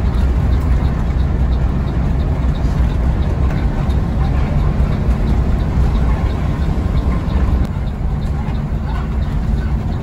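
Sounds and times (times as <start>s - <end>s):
bus engine and road rumble: 0.0s - 10.0s
faint ticking: 0.0s - 10.0s.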